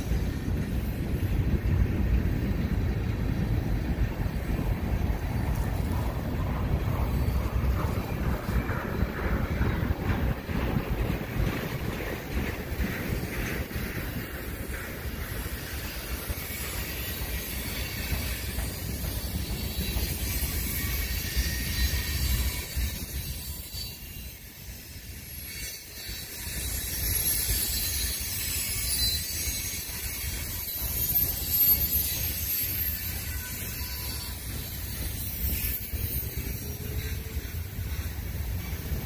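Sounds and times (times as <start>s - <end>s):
freight train rumbling past: 0.0s - 39.0s
steel wheels clattering on rails: 0.0s - 39.0s.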